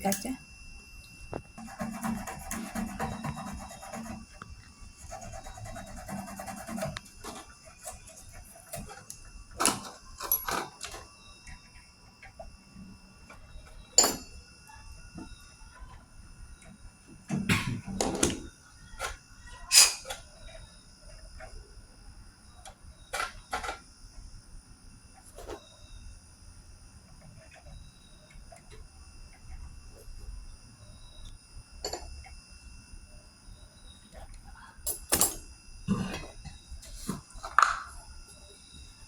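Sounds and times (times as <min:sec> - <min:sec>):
faint steady high whine: 0:00.0 - 0:39.0.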